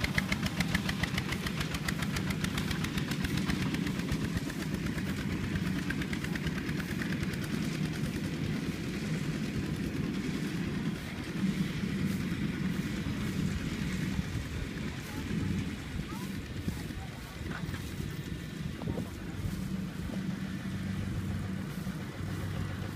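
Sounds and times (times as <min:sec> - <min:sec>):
diesel engine chugging: 0:00.0 - 0:22.9.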